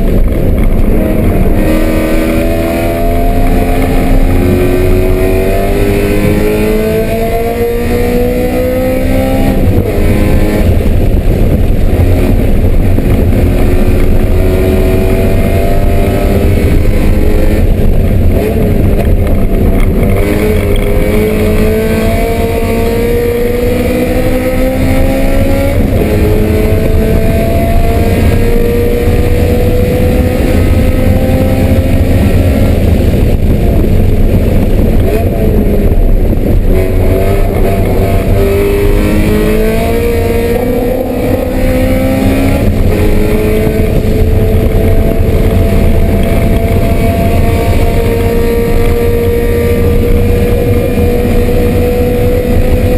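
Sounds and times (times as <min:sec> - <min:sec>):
race car engine accelerating: 0:00.0 - 0:52.9.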